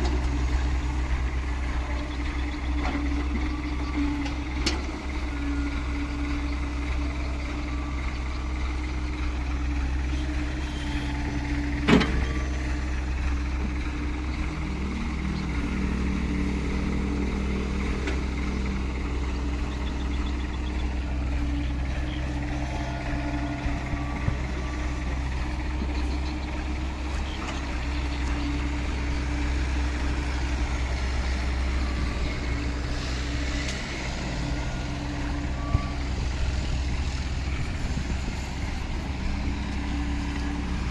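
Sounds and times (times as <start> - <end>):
truck engine low rumble: 0.0 - 40.9.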